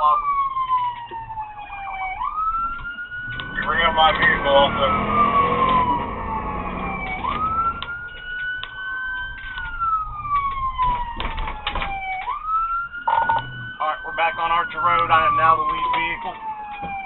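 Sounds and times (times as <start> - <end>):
police siren wailing: 0.0 - 17.0
vehicle noise: 0.0 - 17.0.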